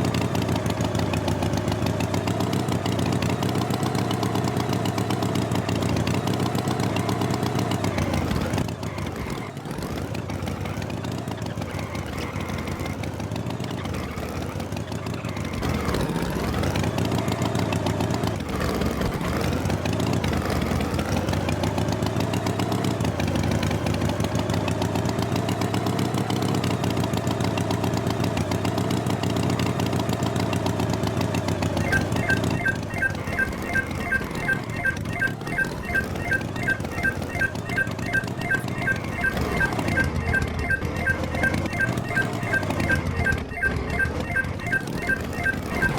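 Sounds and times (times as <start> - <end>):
tractor engine revving: 0.0 - 45.9.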